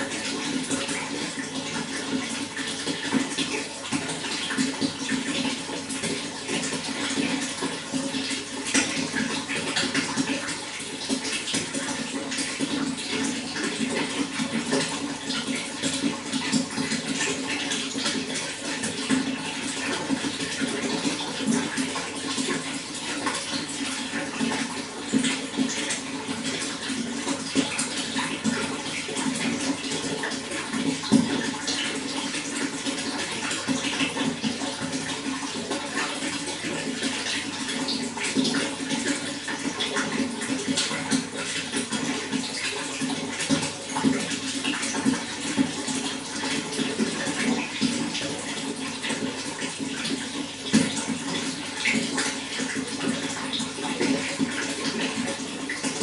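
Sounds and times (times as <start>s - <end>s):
running water pouring and splashing: 0.0s - 56.0s.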